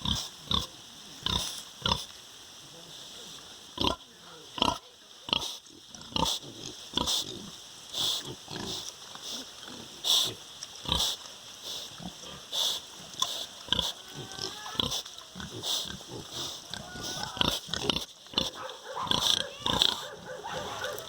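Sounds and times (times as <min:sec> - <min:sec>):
pigs grunting: 0:03.8 - 0:21.0.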